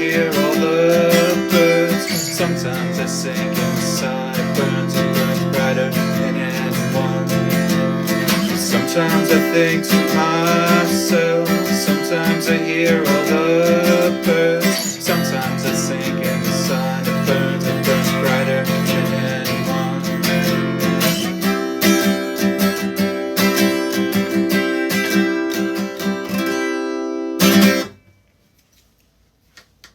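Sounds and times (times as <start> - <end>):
acoustic guitar strumming: 0.0 - 28.2.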